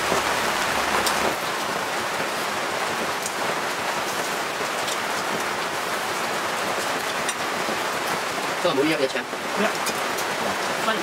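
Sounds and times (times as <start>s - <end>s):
skewers sizzling on grill: 0.0s - 11.0s.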